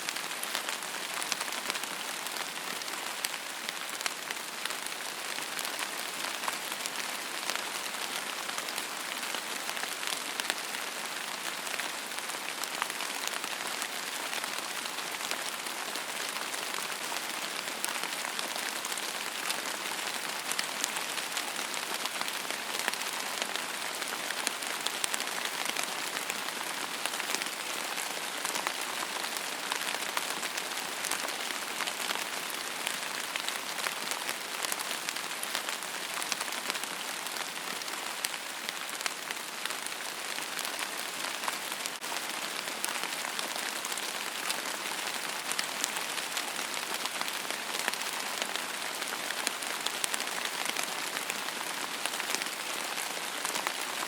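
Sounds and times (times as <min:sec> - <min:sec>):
steady rain hissing: 0:00.0 - 0:54.0
raindrops pattering: 0:00.1 - 0:54.0.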